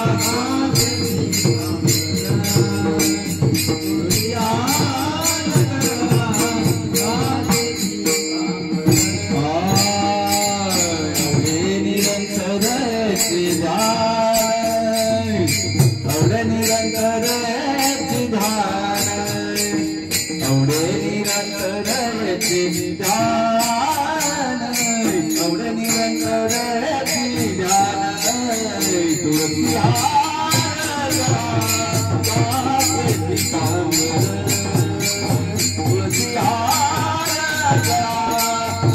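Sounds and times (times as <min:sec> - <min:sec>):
hand cymbals jingling: 0:00.0 - 0:38.9.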